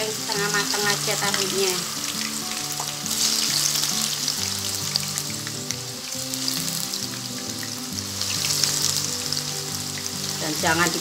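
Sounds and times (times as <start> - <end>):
soft background music: 0.0 - 11.0
tofu sizzling in hot oil: 0.0 - 11.0.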